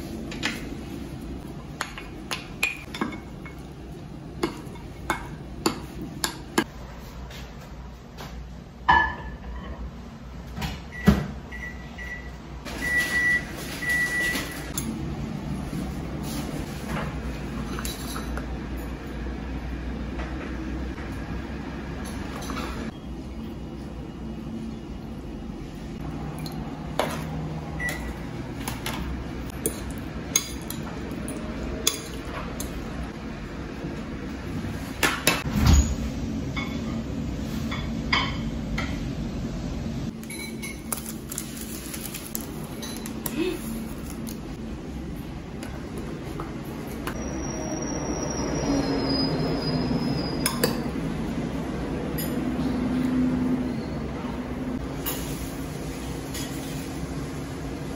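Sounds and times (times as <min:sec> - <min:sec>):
low background hum: 0:00.0 - 0:48.2.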